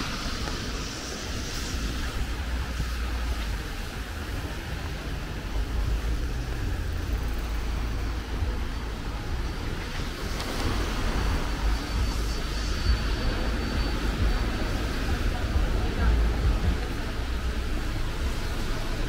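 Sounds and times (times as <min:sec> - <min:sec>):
faint high whine: 0:00.0 - 0:19.0
traffic rumble: 0:00.0 - 0:19.0
tyres hissing on wet road: 0:00.0 - 0:19.0.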